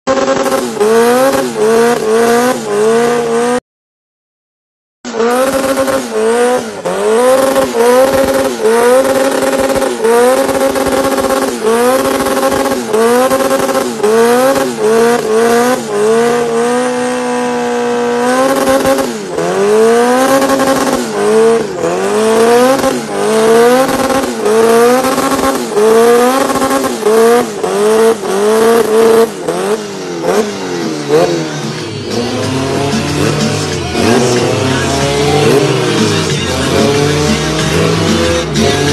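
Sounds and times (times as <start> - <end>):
car engine revving hard: 0.1 - 3.6, 5.1 - 38.9.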